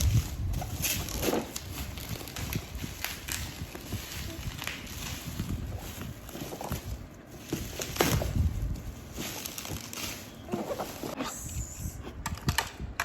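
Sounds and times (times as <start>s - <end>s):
plastic packaging rustling: 0.0s - 11.2s.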